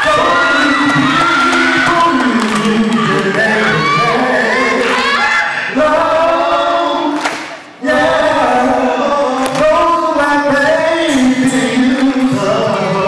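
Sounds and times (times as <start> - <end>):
two men singing: 0.0 - 7.2, 7.8 - 13.0.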